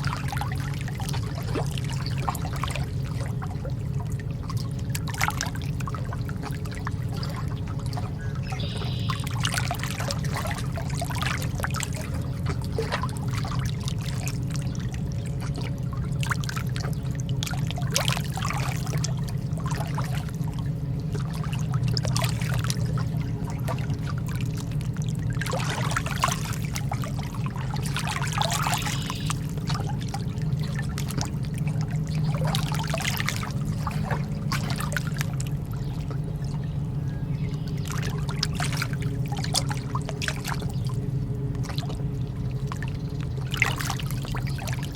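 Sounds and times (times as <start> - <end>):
low steady hum: 0.0 - 44.9
sea water lapping: 0.0 - 44.9.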